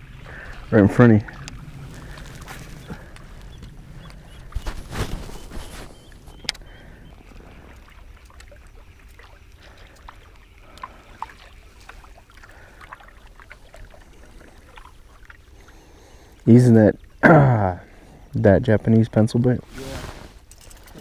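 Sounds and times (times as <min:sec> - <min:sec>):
faint steady hum: 0:00.0 - 0:21.0
faint water movement: 0:00.0 - 0:21.0.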